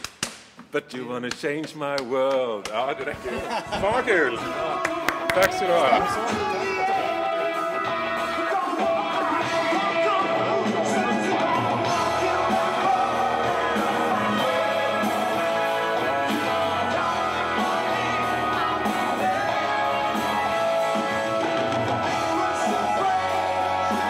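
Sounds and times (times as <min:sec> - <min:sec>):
rock band with singing voice: 0:04.3 - 0:24.0.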